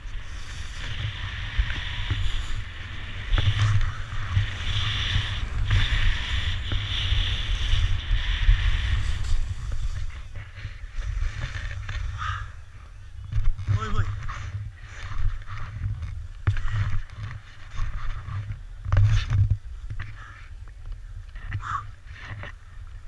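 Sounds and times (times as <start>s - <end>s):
skis scraping over snow: 0.0s - 12.4s, 13.4s - 20.4s
wind buffeting microphone: 0.0s - 23.0s.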